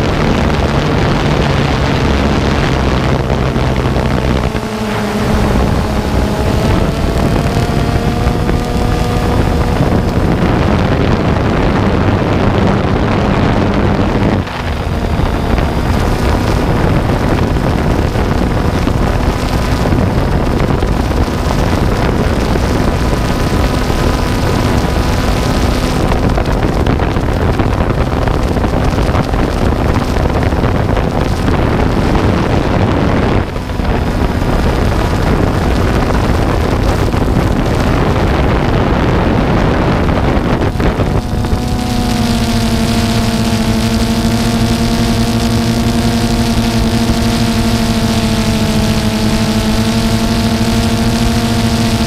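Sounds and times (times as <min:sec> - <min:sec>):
small aircraft propeller hum: 0:00.0 - 0:52.0
wind noise on microphone: 0:00.0 - 0:52.0.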